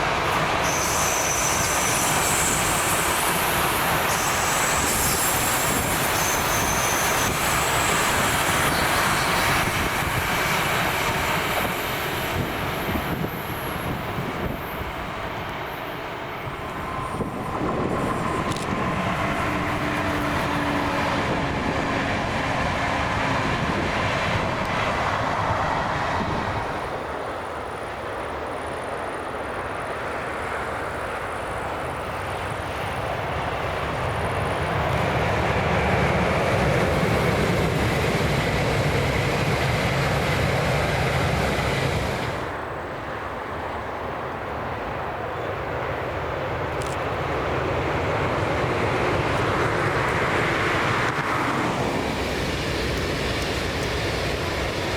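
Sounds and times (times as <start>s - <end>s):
train rumbling past: 0.0s - 54.9s.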